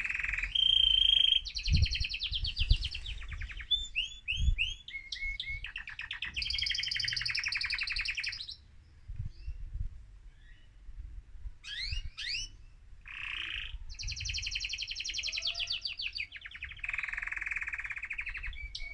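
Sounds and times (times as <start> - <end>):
canary singing with trills: 0.0 - 8.6, 11.6 - 18.9.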